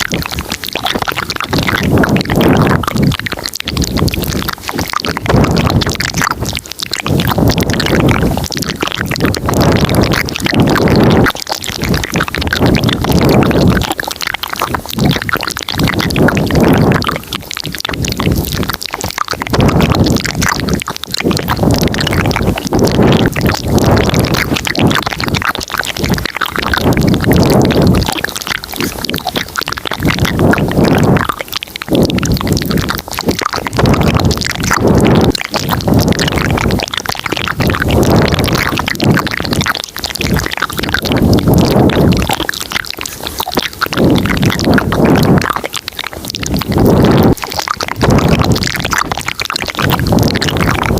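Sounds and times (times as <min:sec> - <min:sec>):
wet mouth clicks and smacks: 0:00.0 - 0:50.9.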